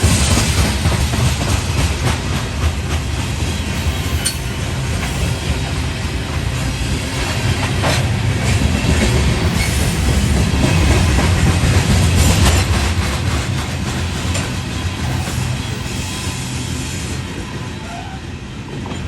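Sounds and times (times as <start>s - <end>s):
wheels clacking over rail joints: 0.0s - 16.1s
freight train rumbling: 0.0s - 19.0s.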